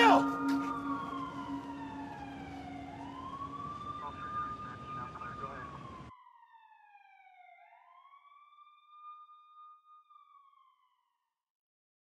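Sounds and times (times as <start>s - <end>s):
faint police siren wailing: 0.0s - 11.1s.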